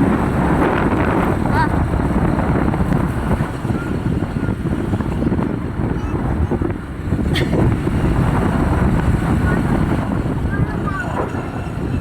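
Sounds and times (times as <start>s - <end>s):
low rumble of vehicle: 0.0s - 12.0s
wind buffeting microphone: 0.0s - 12.0s.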